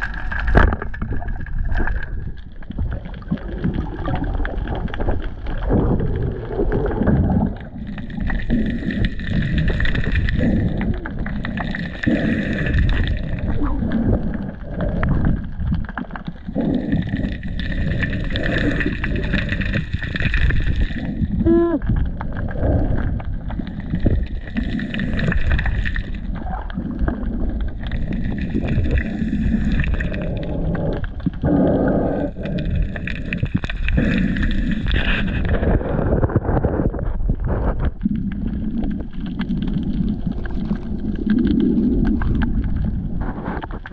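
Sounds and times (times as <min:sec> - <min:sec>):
muffled underwater rumble and gurgling: 0:00.0 - 0:43.9.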